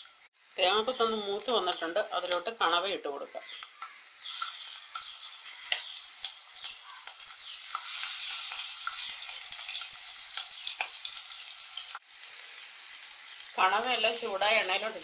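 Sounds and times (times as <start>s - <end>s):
squid sizzling in hot oil: 0.0s - 15.0s.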